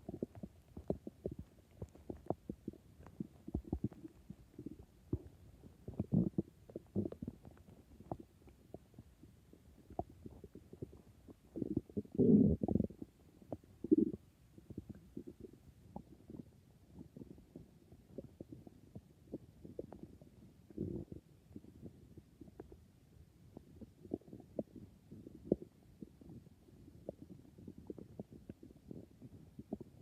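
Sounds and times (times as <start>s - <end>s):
stomach growling: 0.0s - 30.0s.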